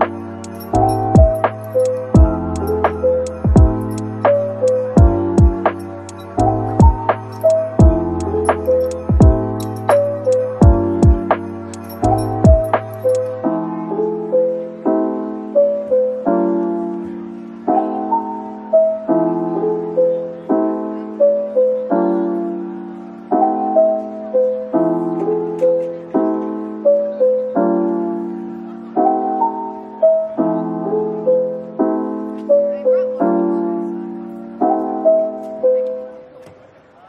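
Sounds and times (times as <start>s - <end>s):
slow piano music: 0.0s - 37.0s.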